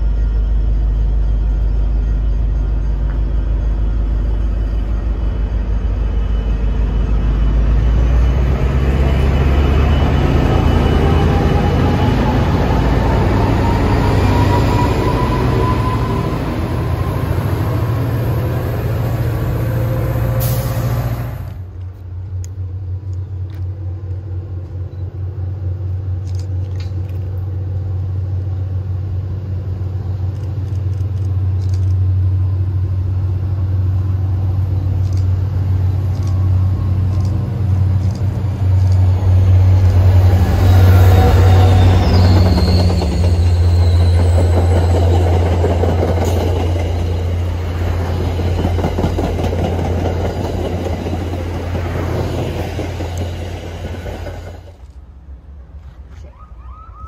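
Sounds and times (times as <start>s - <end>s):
diesel locomotive engine rumble: 0.0s - 57.0s
distant train drone: 0.0s - 57.0s.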